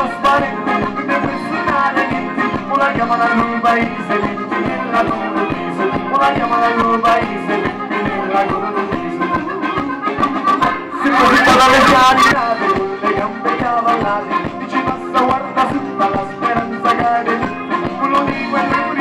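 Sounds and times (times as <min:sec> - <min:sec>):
accordion melody: 0:00.0 - 0:19.0
electric guitar: 0:00.0 - 0:19.0
keyboard: 0:00.0 - 0:19.0.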